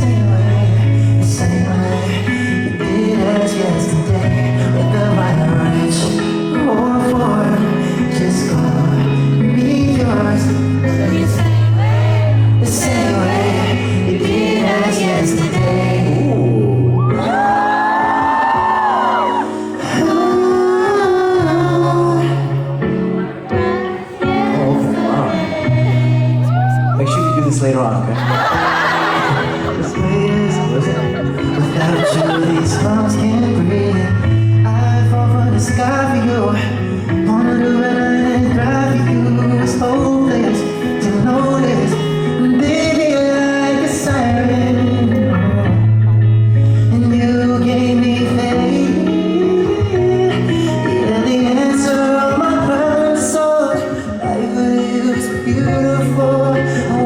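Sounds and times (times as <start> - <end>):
person singing over backing track: 0.0 - 27.9, 28.5 - 57.0.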